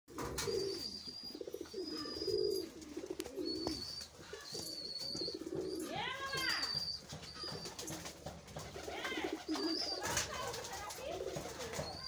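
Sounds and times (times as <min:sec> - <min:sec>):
pigeons cooing: 0:00.1 - 0:12.0.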